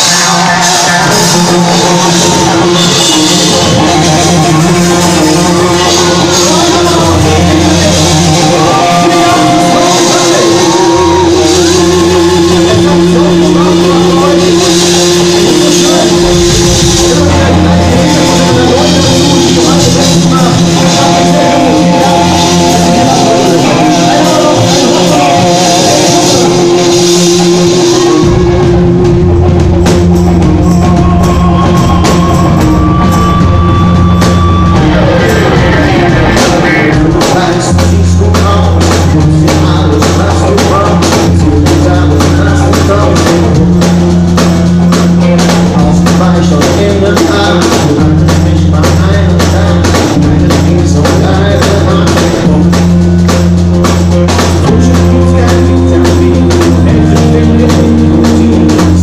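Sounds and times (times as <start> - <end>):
live pop-rock band playing: 0.0 - 59.0
person singing: 0.0 - 59.0
steady drum beat: 0.0 - 59.0.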